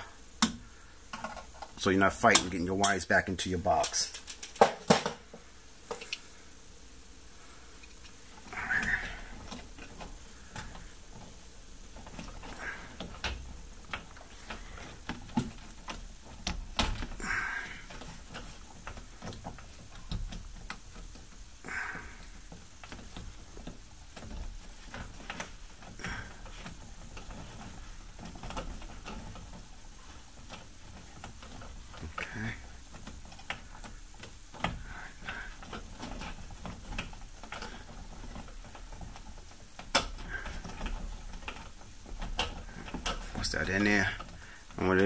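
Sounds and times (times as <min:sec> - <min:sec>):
wires clicking and tapping: 0:00.0 - 0:45.0.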